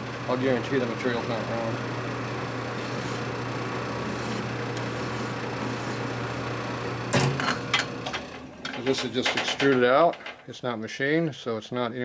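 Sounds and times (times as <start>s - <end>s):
machine humming: 0.0s - 10.4s.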